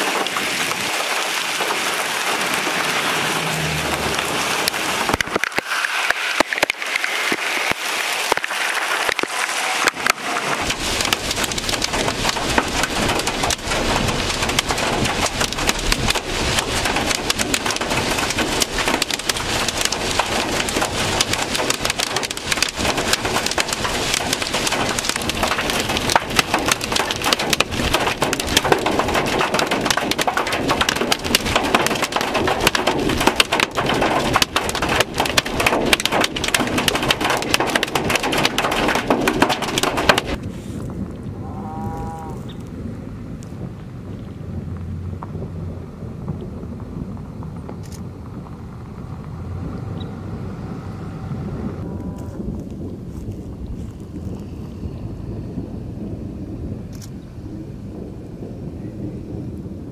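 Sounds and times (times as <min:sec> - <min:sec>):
hailstones ticking on hard surfaces: 0:00.0 - 0:41.3, 0:43.3 - 0:49.4, 0:51.8 - 0:55.0
heavy rain and hail: 0:00.0 - 0:59.9
low rumble: 0:02.1 - 0:05.5, 0:10.2 - 0:59.9.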